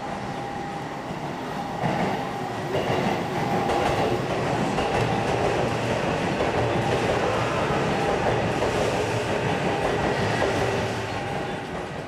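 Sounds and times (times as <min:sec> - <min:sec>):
train wheels clattering on rails: 0:00.4 - 0:12.0.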